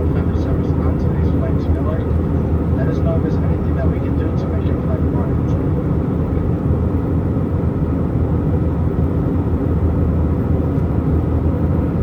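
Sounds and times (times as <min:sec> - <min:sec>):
faint steady whine: 0:00.0 - 0:12.0
jet engines rumbling: 0:00.0 - 0:12.0.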